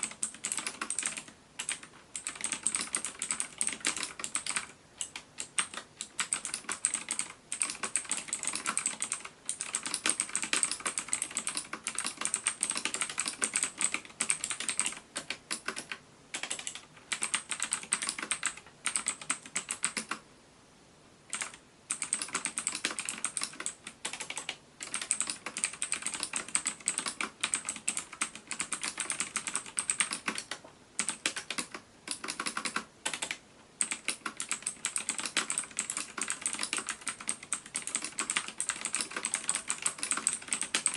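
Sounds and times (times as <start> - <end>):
mechanical keyboard typing: 0.0 - 20.2, 21.3 - 40.9.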